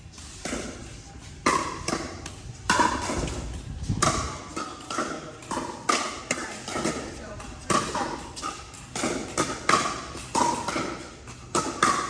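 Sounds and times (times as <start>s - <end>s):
paddles hitting plastic ball: 0.3s - 12.0s.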